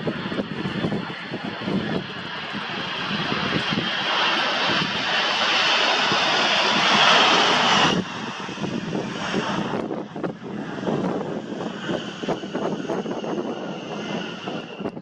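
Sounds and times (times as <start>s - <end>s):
jet airliner engines roaring: 0.0s - 15.0s
wind buffeting microphone: 0.0s - 15.0s.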